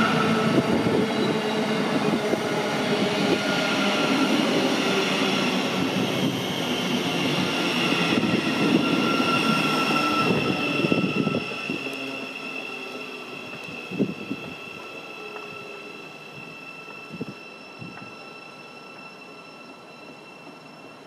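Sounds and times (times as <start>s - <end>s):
train wheel-on-rail rumble: 0.0s - 21.0s.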